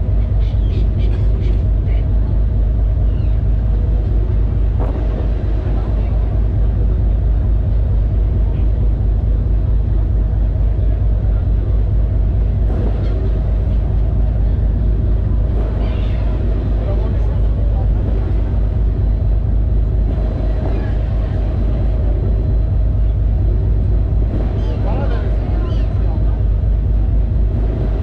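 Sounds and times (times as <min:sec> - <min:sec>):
ferry engine low rumble: 0:00.0 - 0:28.0.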